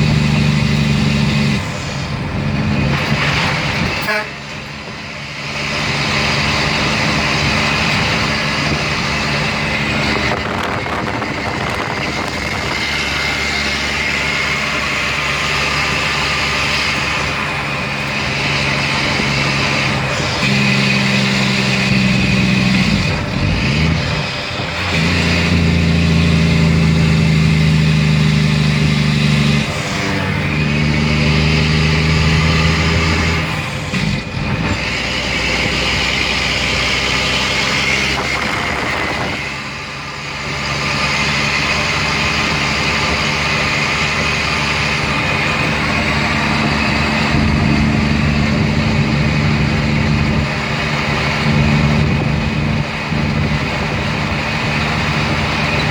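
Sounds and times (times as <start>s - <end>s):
dump truck diesel engine: 0.0s - 55.9s.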